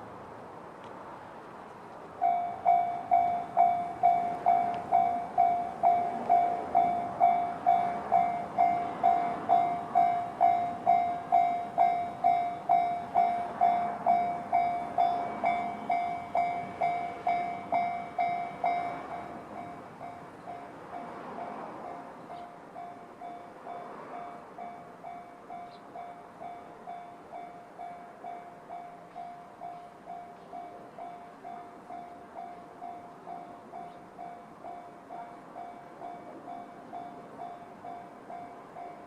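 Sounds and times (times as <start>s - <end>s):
level crossing warning bell: 2.2s - 39.0s.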